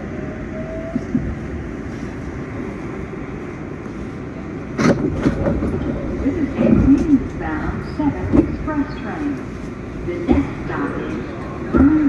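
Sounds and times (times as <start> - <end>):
subway wheels rumbling on rail: 0.0 - 12.0.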